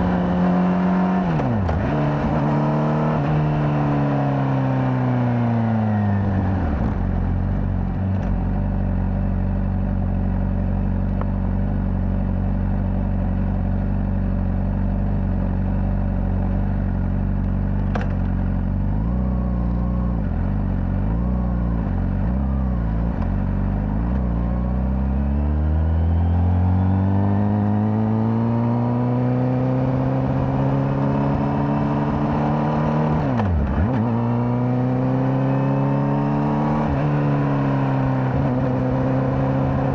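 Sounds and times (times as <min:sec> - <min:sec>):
motorcycle engine revving: 0:00.0 - 0:09.7, 0:17.1 - 0:39.9.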